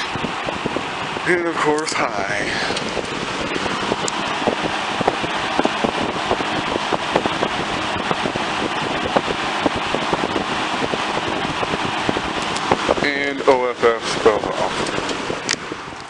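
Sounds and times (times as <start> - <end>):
box fan rushing air: 0.0 - 16.0.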